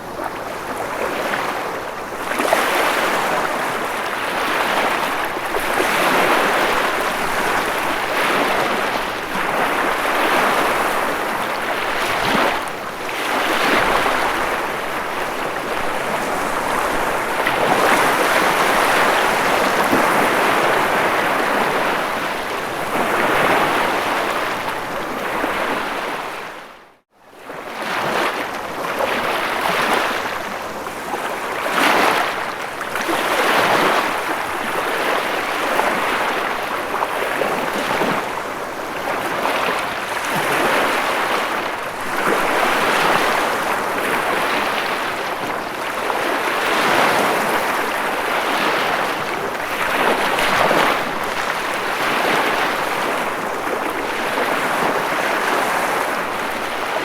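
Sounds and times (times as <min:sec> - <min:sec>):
ocean waves surging: 0:00.0 - 0:26.4, 0:31.6 - 0:57.0.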